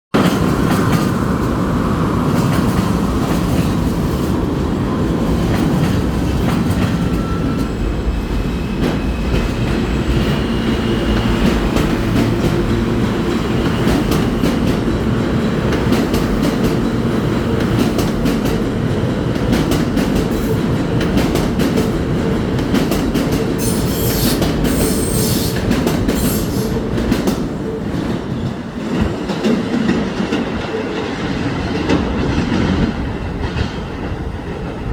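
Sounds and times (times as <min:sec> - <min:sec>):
subway train rumbling: 0:00.1 - 0:34.9.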